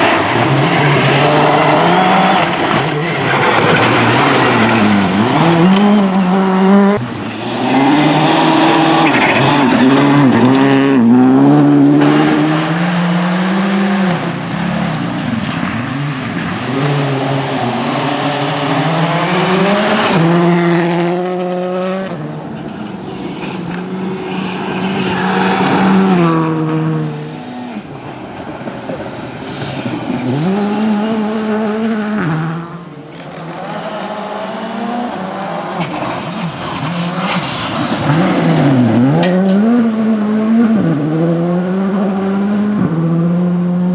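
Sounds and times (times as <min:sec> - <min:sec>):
rally cars passing at speed: 0:00.0 - 0:43.9.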